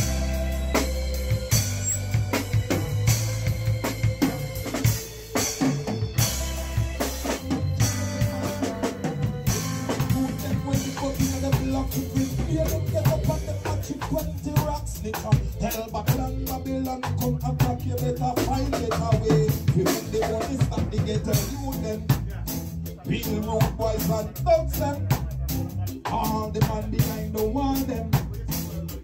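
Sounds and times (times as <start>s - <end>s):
drum kit beat: 0.0s - 29.0s
live band playing: 0.0s - 29.0s.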